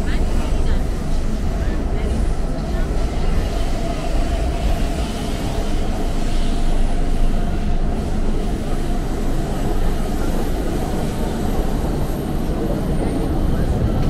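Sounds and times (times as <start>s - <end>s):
subway train rumbling in tunnel: 0.0s - 14.0s.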